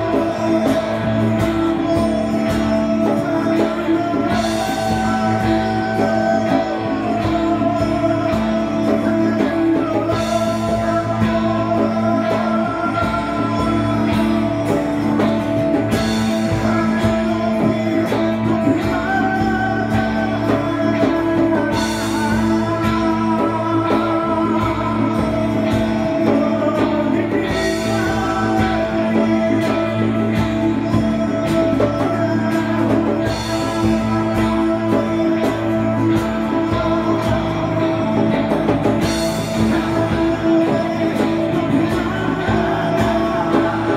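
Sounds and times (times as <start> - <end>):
guitars holding sustained notes: 0.0 - 43.9
person singing: 0.0 - 43.9.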